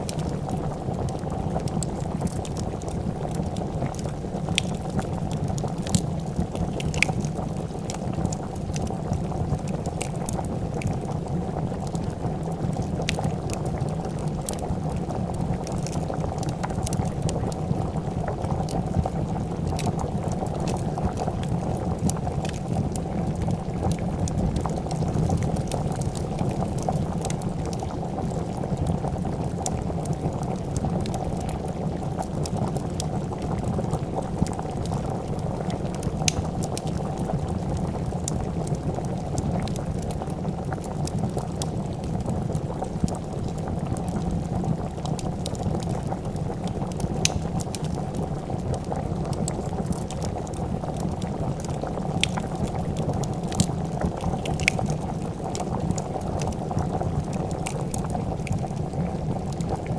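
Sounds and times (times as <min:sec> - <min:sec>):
soup boiling: 0:00.0 - 0:59.9
wood fire crackling: 0:00.0 - 0:59.9.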